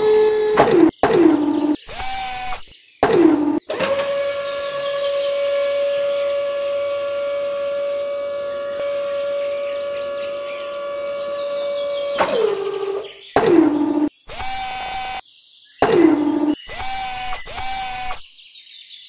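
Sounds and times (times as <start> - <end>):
small electric motor whining: 0.0 - 15.2, 15.8 - 18.3.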